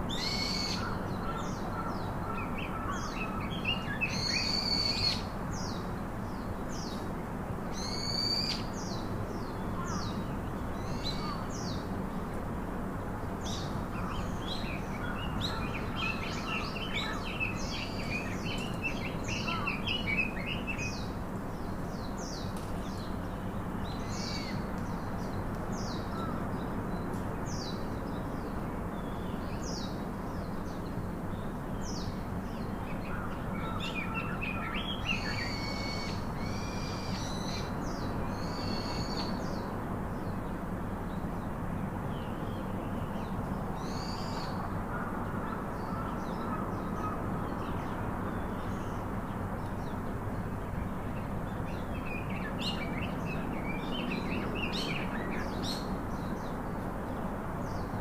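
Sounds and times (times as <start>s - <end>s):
birds chirping and twittering: 0.0s - 7.1s, 13.4s - 58.0s
steady background noise: 0.0s - 58.0s.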